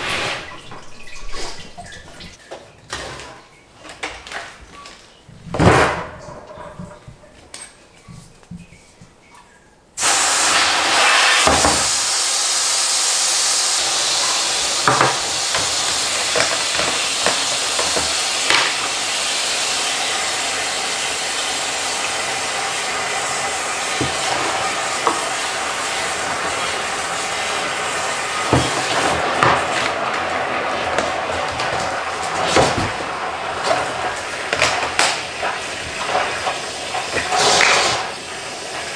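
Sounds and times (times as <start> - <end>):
water running from hose: 0.0 - 2.4, 10.0 - 38.9.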